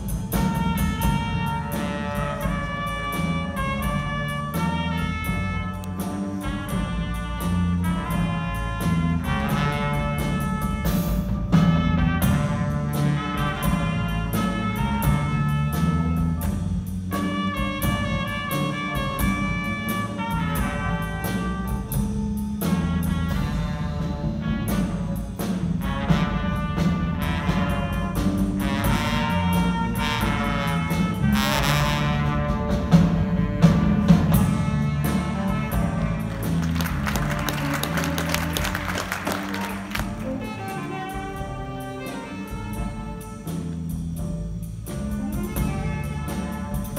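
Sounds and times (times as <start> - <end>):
live band with horn section: 0.0 - 46.9.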